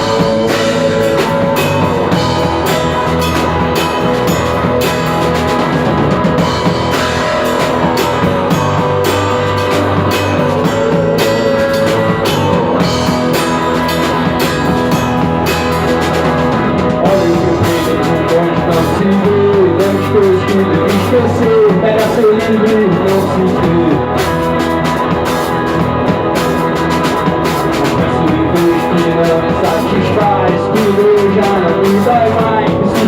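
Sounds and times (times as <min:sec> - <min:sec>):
rock band playing: 0:00.0 - 0:33.0
sliding guitar notes: 0:00.0 - 0:33.0.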